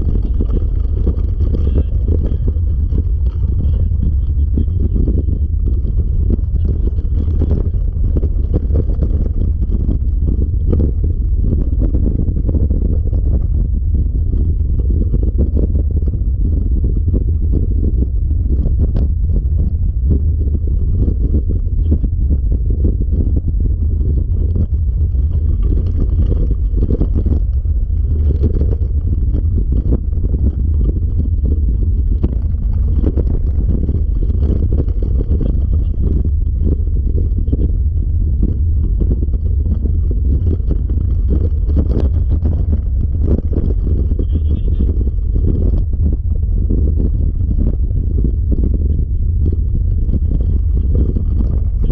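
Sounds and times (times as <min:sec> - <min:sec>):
wheels rattling on dirt trail: 0:00.0 - 0:51.9
wind buffeting the microphone: 0:00.0 - 0:51.9.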